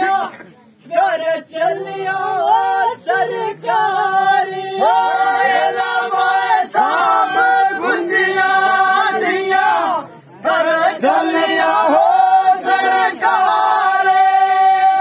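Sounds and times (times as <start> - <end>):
men singing folk song together: 0.0 - 15.0.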